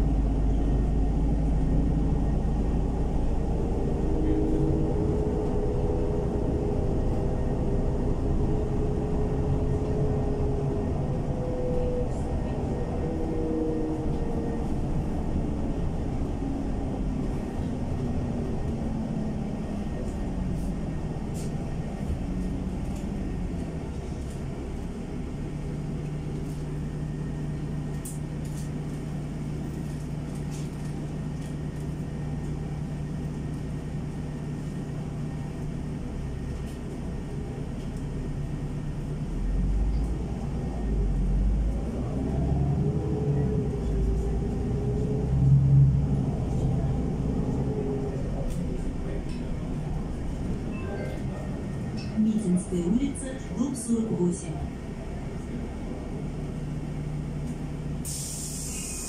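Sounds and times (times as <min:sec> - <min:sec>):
bus engine: 0:00.0 - 0:59.0.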